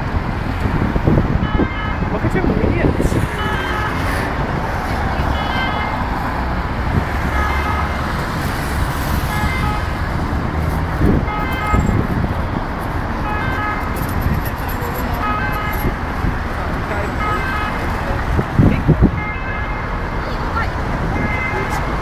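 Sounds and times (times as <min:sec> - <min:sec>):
traffic rumble of engines and tyres: 0:00.0 - 0:22.0.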